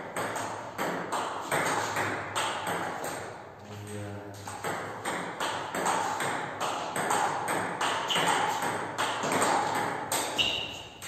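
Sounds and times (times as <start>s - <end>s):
table tennis ball on bat: 0.0s - 3.4s, 4.4s - 11.0s
table tennis ball on table: 0.0s - 3.4s, 4.3s - 11.0s.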